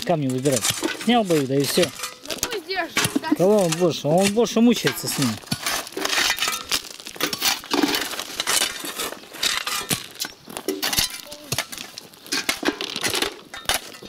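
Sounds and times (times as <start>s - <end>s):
shovel scraping crushed stone: 0.0s - 14.0s
stones clinking into buckets: 0.0s - 14.0s.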